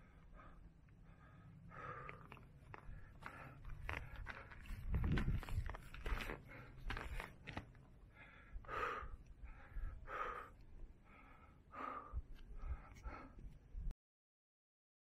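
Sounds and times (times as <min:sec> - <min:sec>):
person breathing hard: 0:00.0 - 0:13.6.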